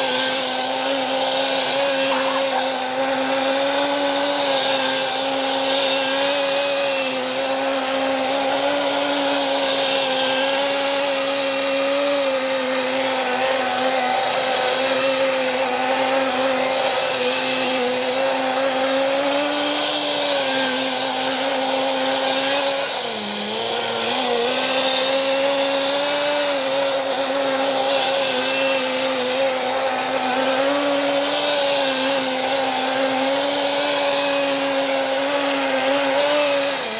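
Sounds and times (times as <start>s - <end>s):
small nitro engine revving high: 0.0s - 36.9s.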